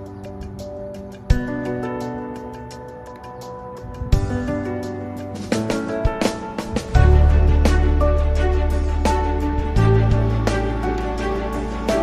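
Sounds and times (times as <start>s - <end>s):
background music with light beat: 0.0s - 12.0s.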